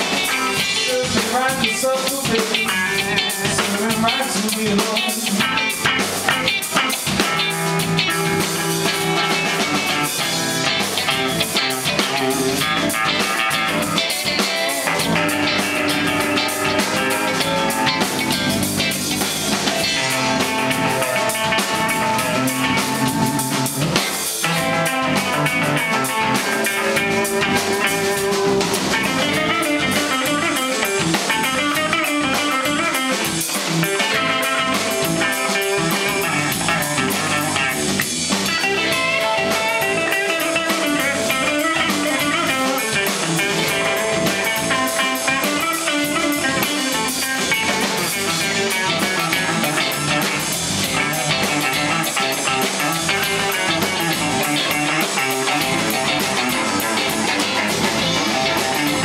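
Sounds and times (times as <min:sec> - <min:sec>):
drum kit: 0:00.0 - 0:59.0
electric guitar lead: 0:00.0 - 0:59.0.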